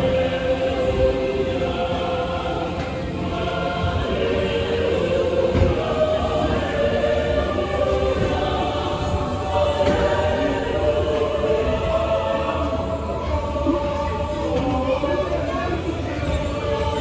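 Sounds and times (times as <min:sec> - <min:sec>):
choir holding long notes: 0:00.0 - 0:17.0.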